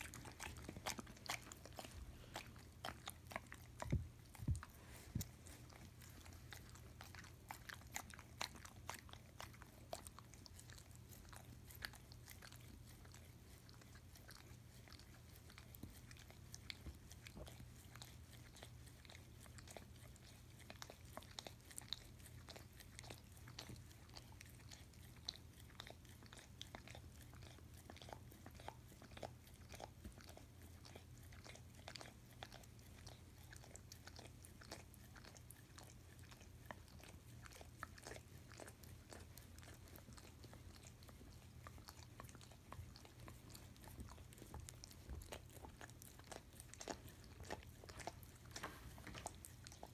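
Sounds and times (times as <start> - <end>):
dog licking and smacking: 0.0 - 49.9.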